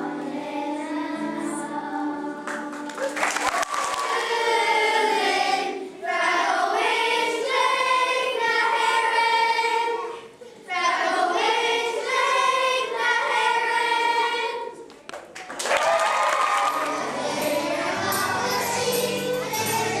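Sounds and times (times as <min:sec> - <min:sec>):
children's choir singing: 0:00.0 - 0:14.9, 0:16.5 - 0:20.0.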